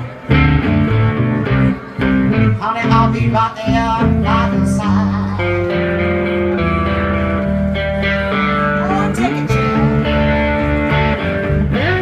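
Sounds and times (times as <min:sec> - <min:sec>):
amplified blues guitars: 0:00.0 - 0:12.0.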